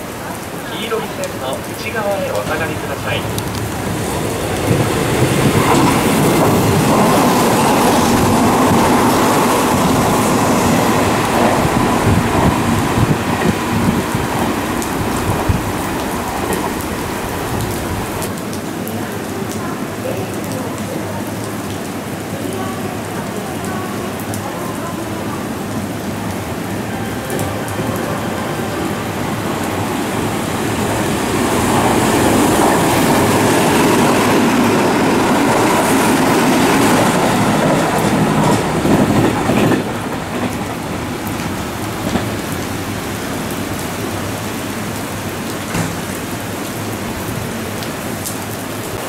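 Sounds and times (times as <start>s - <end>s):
heavy rain: 0.0s - 49.0s
train passing at speed: 0.0s - 49.0s.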